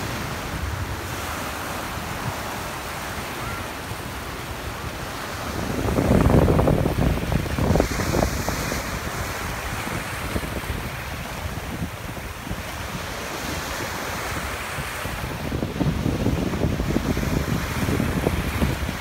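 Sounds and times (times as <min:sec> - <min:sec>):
sea waves washing in: 0:00.0 - 0:19.0
wind buffeting microphone: 0:00.0 - 0:19.0.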